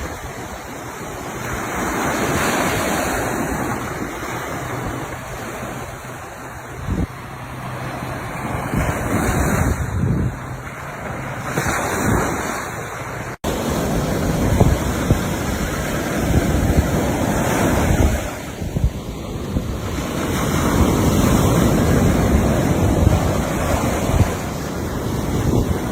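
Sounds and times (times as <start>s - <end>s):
sea waves washing onto shore: 0.0s - 25.9s
wind rumbling on microphone: 0.0s - 25.9s.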